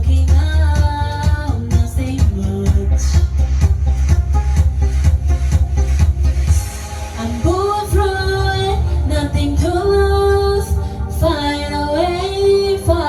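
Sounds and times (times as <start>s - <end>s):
karaoke backing track with bass beat: 0.0s - 13.0s.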